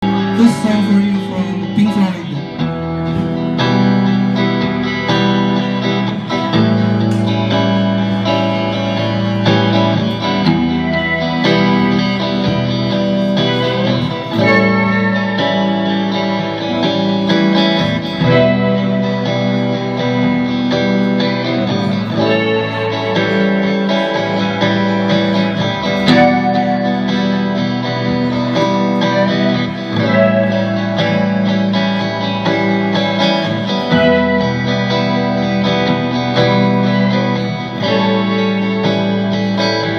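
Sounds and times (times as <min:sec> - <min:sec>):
electric guitar chords: 0:00.0 - 0:39.9.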